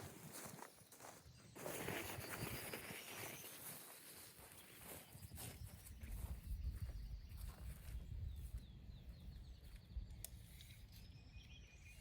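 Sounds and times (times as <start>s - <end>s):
faint bird chirps: 0.3s - 12.0s.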